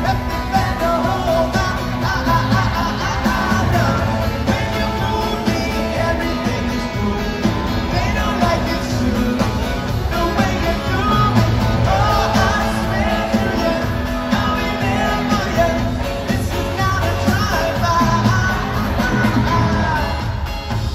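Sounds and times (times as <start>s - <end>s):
live pop-rock band: 0.0s - 20.9s
man singing lead vocal: 0.0s - 20.9s.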